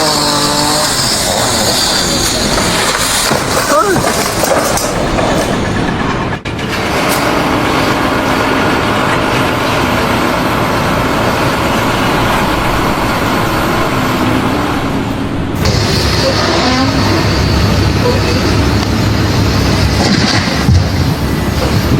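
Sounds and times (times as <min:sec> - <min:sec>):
heavy engine rumble: 0:00.0 - 0:21.9.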